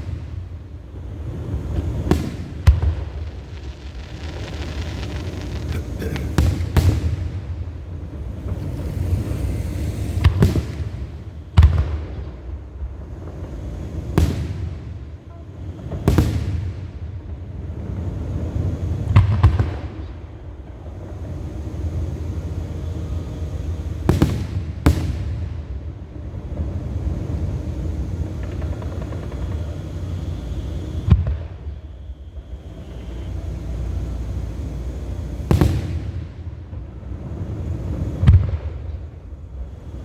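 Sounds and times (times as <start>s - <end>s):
fireworks bursting with sharp bangs: 0.0s - 40.0s
low rumble of fireworks: 0.0s - 40.0s.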